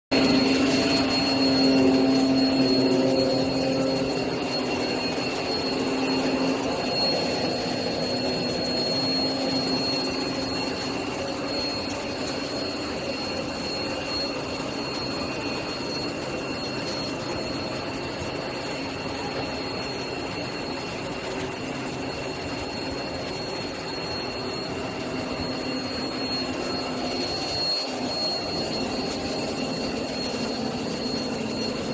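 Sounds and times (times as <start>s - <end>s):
cutting machine whirring: 0.1s - 31.9s
thin high whine: 0.1s - 31.9s.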